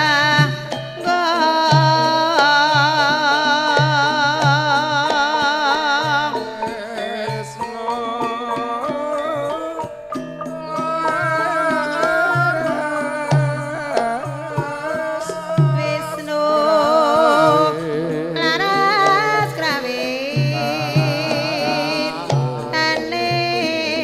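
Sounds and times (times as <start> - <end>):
person singing high melody: 0.0 - 10.0, 10.6 - 24.0
hand drum strokes: 0.0 - 24.0
metallophone tones: 0.0 - 24.0.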